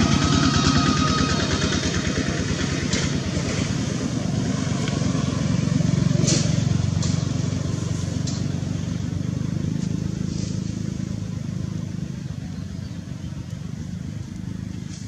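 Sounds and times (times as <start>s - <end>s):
motorbike engine idling: 0.0s - 15.0s.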